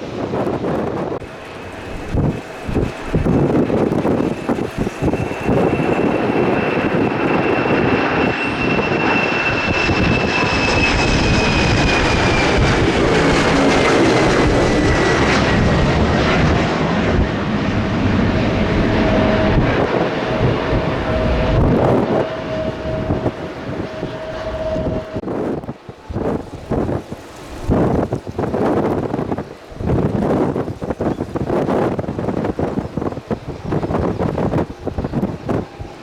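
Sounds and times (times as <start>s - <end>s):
jet airliner passing: 0.0s - 36.0s.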